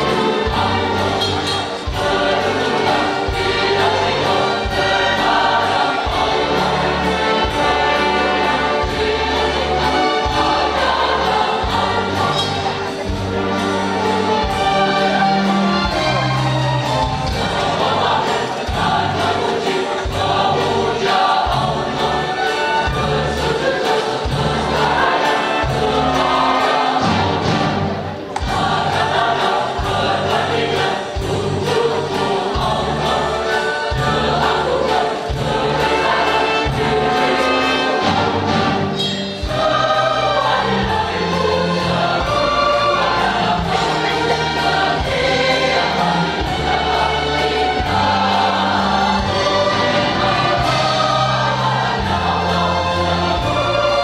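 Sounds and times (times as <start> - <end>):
mixed choir singing: 0.0 - 54.0
orchestra playing: 0.0 - 54.0.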